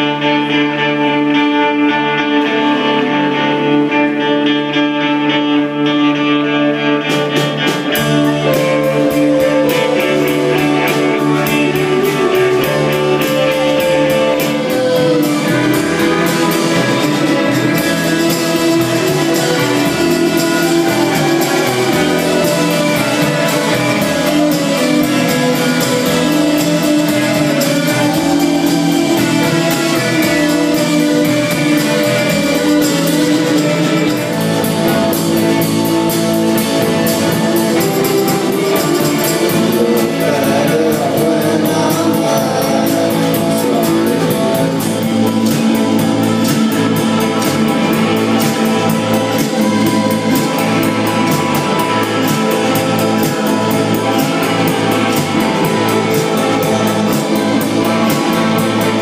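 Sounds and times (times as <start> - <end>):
rock music with singing: 0.0 - 59.0.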